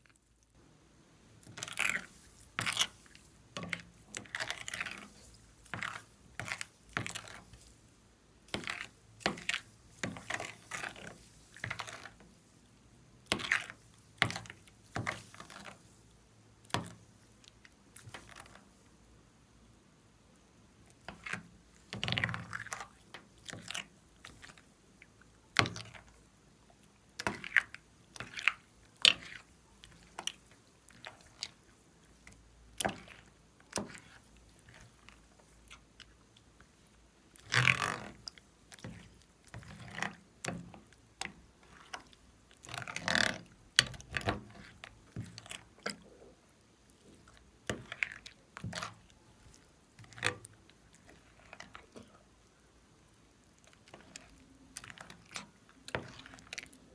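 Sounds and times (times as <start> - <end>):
slime squishing by hand: 1.3 - 18.8, 20.8 - 52.4, 53.5 - 56.9.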